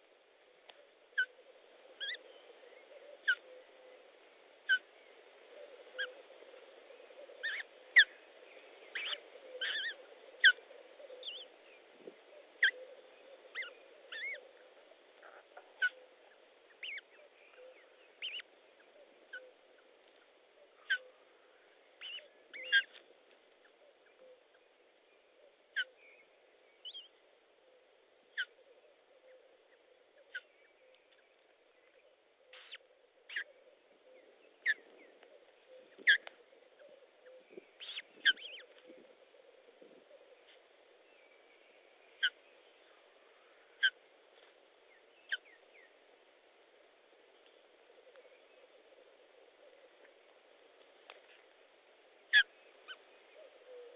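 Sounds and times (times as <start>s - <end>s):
faint steady hum: 0.0s - 53.9s
high peeping bird calls: 1.1s - 23.0s, 23.6s - 27.2s, 28.3s - 46.0s, 52.2s - 53.9s.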